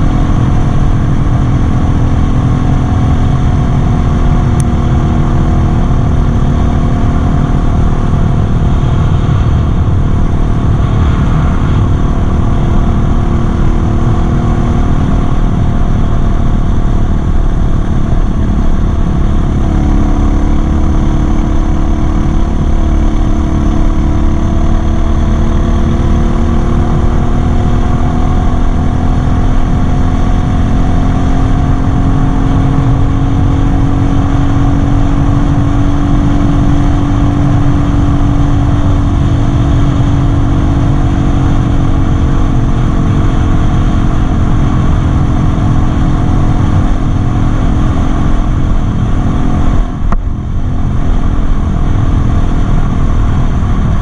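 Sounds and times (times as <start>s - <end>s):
dirt bike engine rumbling: 0.0s - 54.0s.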